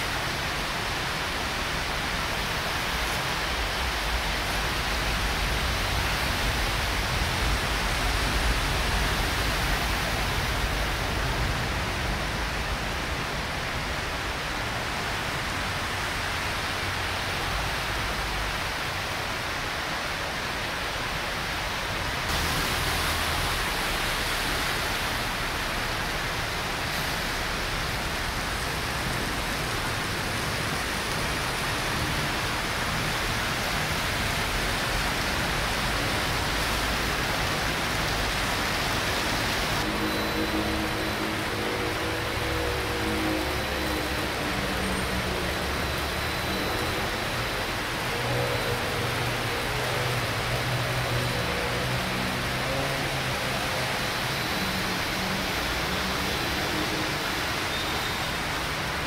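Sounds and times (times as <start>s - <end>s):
rain hissing: 0.0s - 59.0s
traffic through floodwater: 0.0s - 59.0s.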